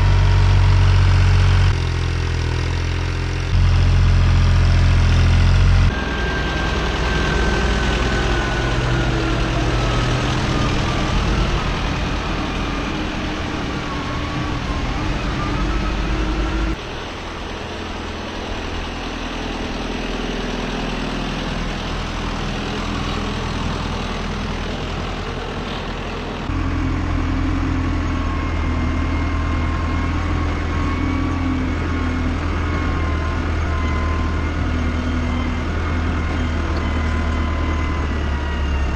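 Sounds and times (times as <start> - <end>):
tractor engine running: 0.0 - 38.9
faint whine: 5.8 - 38.9.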